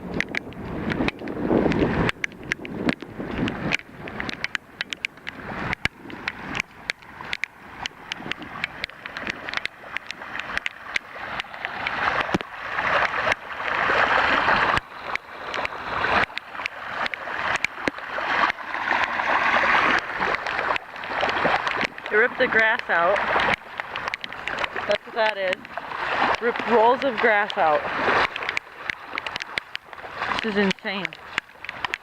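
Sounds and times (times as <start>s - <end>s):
legs wading through water: 0.0s - 32.0s
sharp clicks: 0.1s - 13.4s, 14.7s - 19.1s, 19.9s - 32.0s.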